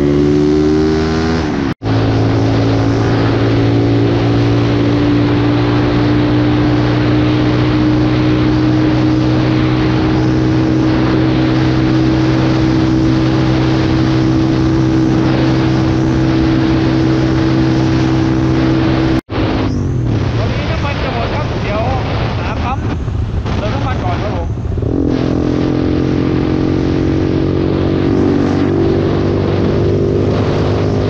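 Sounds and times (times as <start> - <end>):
motorcycle engine cruising: 0.0 - 31.0
rushing wind: 0.0 - 31.0.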